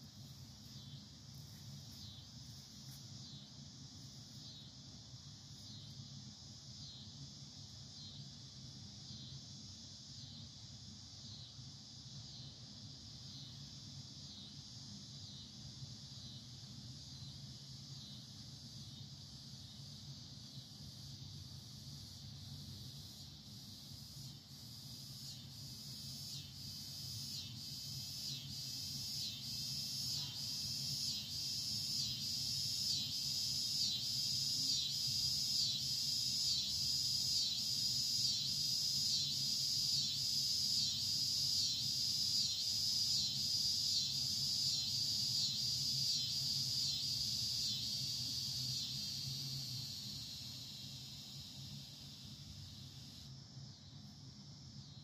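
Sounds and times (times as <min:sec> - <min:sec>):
pulsing insect song: 0:00.0 - 0:55.0.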